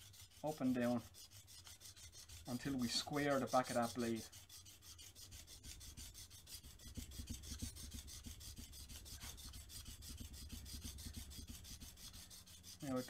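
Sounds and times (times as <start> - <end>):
blade scraping on sharpening plate: 0.0 - 13.0.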